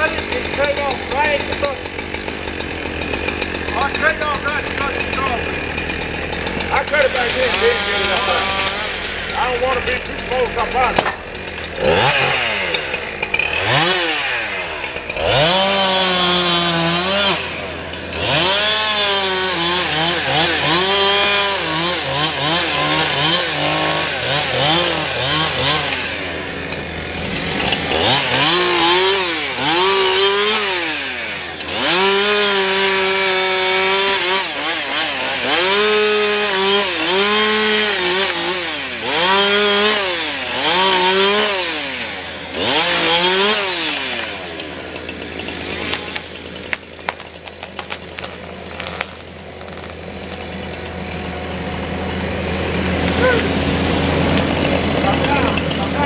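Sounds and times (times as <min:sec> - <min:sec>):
chainsaw revving while cutting: 0:00.0 - 0:56.0.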